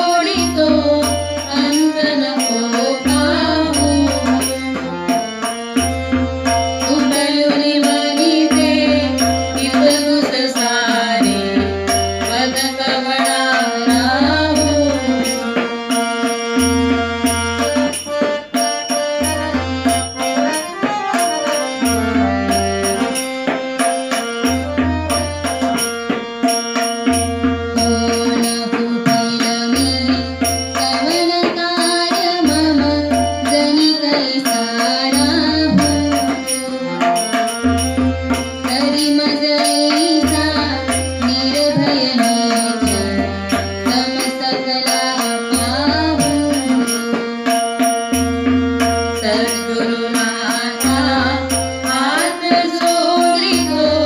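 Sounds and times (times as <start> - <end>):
harmonium melody: 0.0 - 54.0
tabla rhythm: 0.0 - 54.0.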